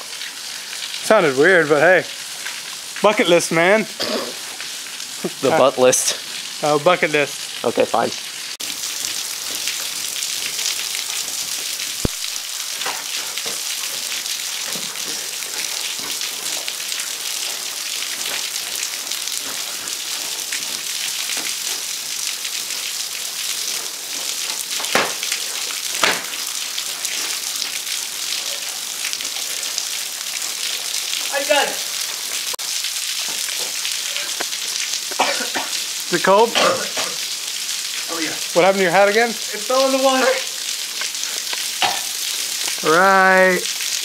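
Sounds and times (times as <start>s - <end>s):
small waterfall splashing: 0.0s - 44.0s.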